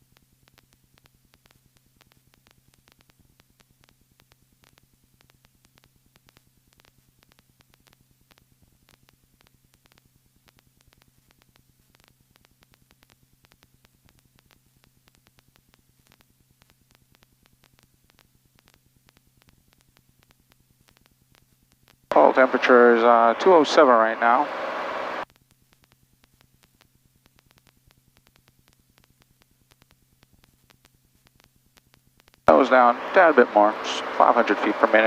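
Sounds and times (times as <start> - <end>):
crackling static clicks: 0.0 - 35.0
faint hum and hiss: 0.0 - 35.0.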